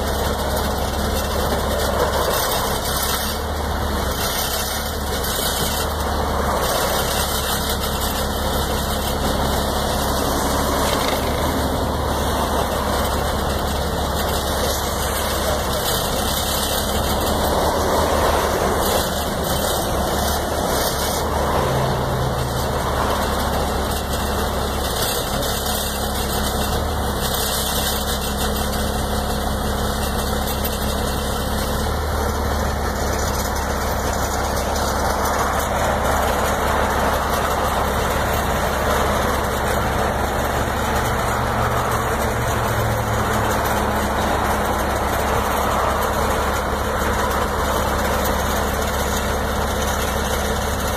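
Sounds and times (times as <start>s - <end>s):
vehicle engine idling: 0.0s - 50.9s.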